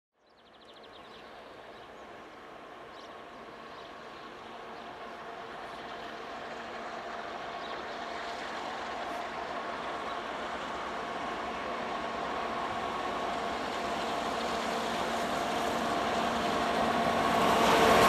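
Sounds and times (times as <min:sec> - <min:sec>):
distant train rumbling: 0:00.8 - 0:18.0.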